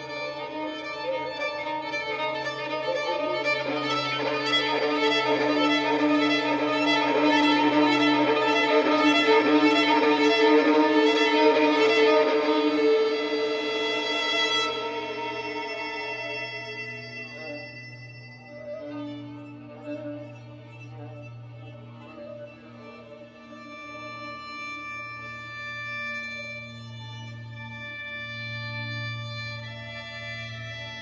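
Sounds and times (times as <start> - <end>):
solo violin bowed notes: 0.0 - 31.0.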